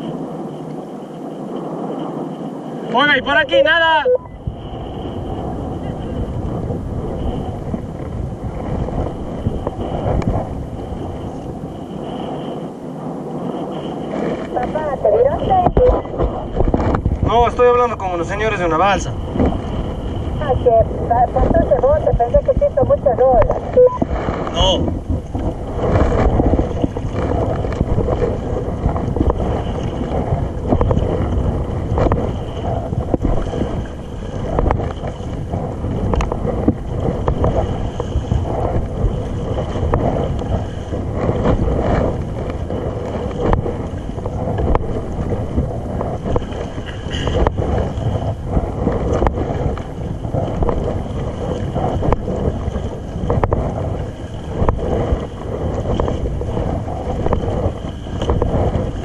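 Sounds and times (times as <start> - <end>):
water lapping against hull: 0.0 - 59.0
wind buffeting microphone: 0.0 - 59.0.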